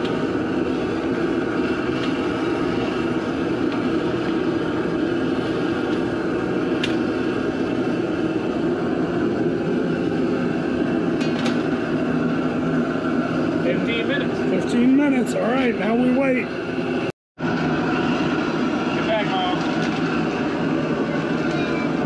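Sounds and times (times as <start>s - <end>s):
propane burner roaring: 0.0s - 22.0s.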